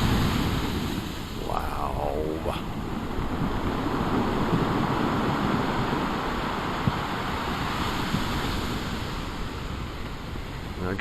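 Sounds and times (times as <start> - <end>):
waves breaking ashore: 0.0 - 11.0
wind buffeting microphone: 0.0 - 11.0.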